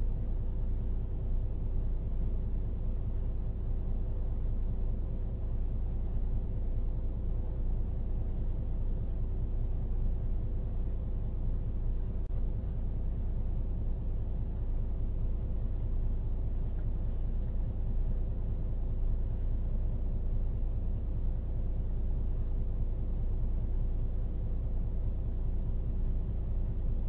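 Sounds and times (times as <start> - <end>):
faint constant hum: 0.0 - 27.0
steady low rumble: 0.0 - 27.0.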